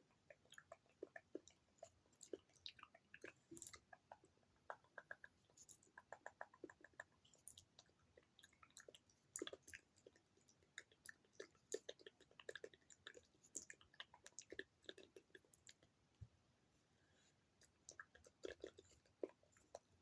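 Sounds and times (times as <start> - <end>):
wet tongue clicks: 0.1 - 15.9, 17.6 - 19.9
lip smacks: 0.3 - 15.9, 17.6 - 19.9.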